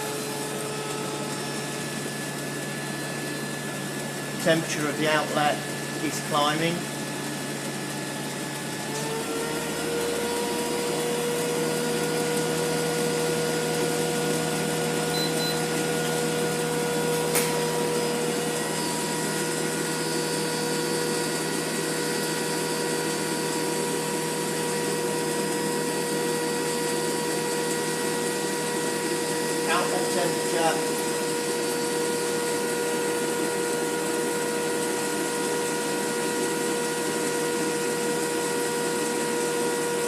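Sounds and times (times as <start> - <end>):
heater fan and burner whirring: 0.0 - 40.0.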